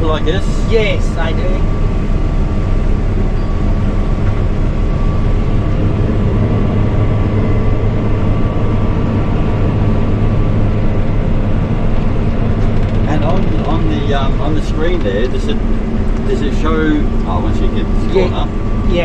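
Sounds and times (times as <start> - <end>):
combine harvester engine drone: 0.0 - 19.0
faint constant whine: 0.0 - 19.0.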